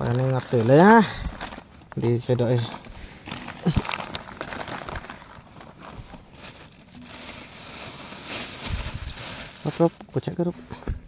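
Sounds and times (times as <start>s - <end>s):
paper and plastic bag crinkling: 0.0s - 10.5s.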